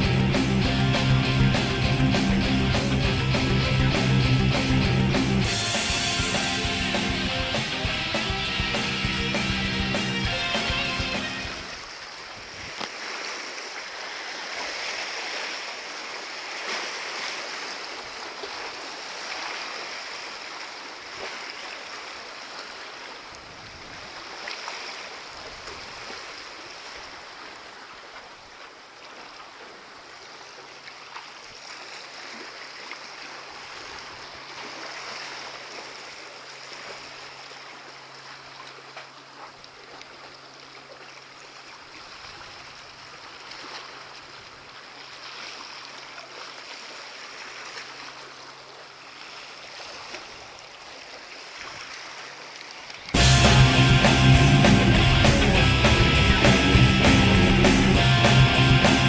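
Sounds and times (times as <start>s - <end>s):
sea water lapping: 0.0s - 53.4s.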